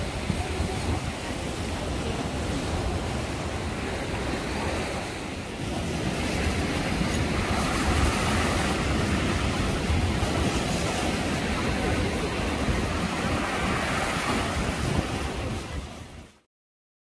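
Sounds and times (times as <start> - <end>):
waves breaking against rocks: 0.0 - 16.3
wind rumbling on microphone: 0.0 - 16.4.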